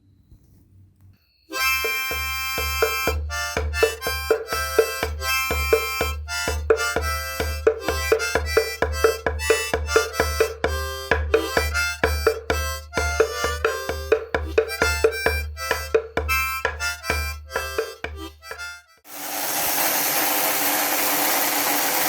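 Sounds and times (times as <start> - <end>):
instrumental music: 1.4 - 21.7.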